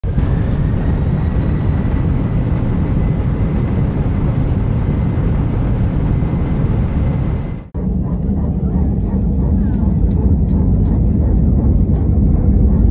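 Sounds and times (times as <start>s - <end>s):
airliner engine rumble: 0.0s - 12.9s
high engine whine: 0.0s - 12.9s.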